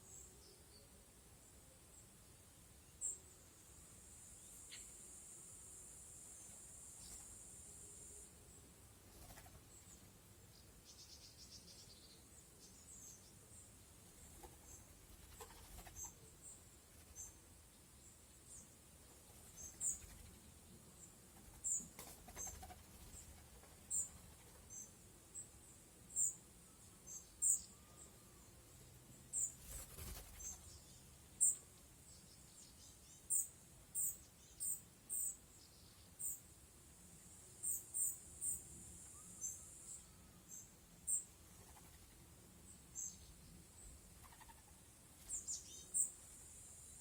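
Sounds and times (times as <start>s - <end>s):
faint background noise: 0.0s - 47.0s.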